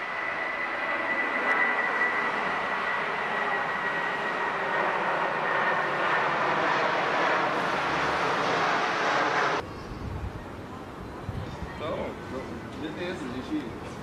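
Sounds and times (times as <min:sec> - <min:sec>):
jet airplane roar with whine: 0:00.0 - 0:14.0.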